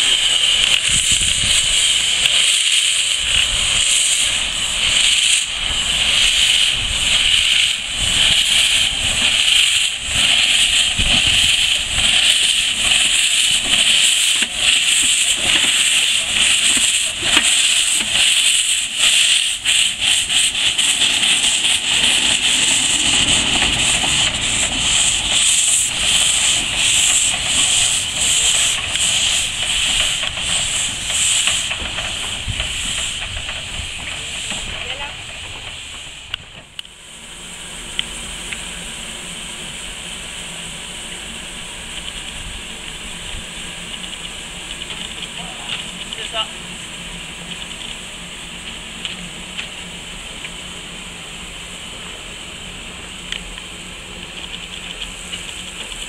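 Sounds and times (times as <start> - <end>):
steam locomotive hissing: 0.0 - 56.0.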